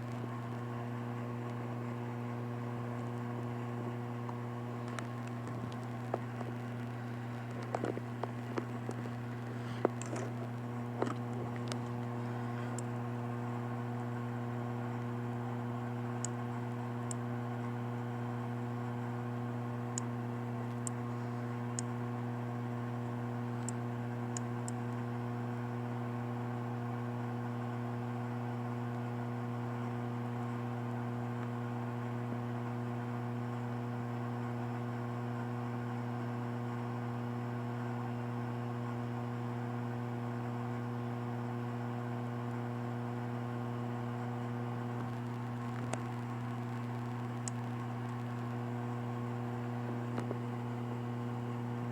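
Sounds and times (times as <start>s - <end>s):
electrical hum: 0.0s - 51.9s.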